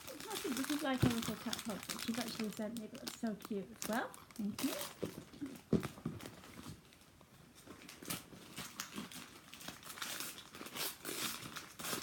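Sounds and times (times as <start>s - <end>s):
wrapping paper crinkling and tearing: 0.0s - 6.7s, 7.6s - 12.0s.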